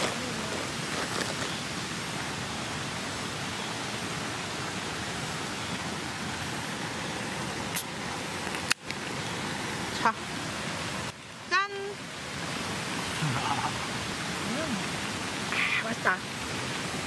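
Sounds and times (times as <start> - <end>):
mountain stream flowing: 0.0 - 17.0.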